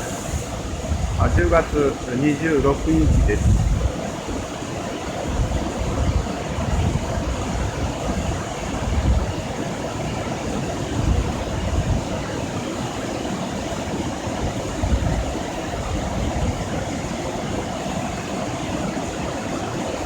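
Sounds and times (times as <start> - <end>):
waterfall rushing: 0.0 - 20.0
wind on microphone: 0.0 - 20.0.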